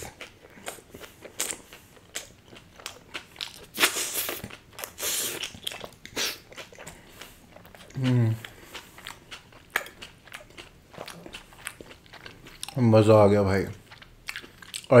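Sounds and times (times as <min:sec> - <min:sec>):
crunchy wet chewing: 0:00.0 - 0:15.0.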